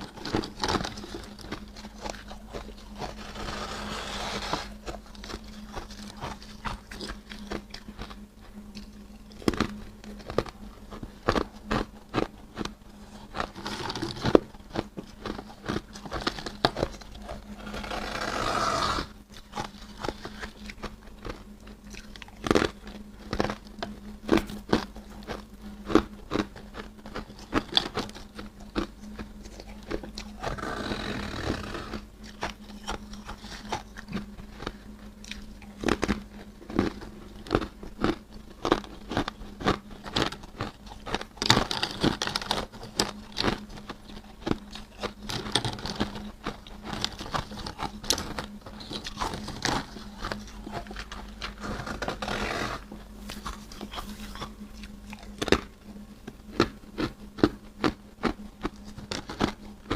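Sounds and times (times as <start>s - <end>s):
frost being crunched and chewed: 0.0s - 59.9s.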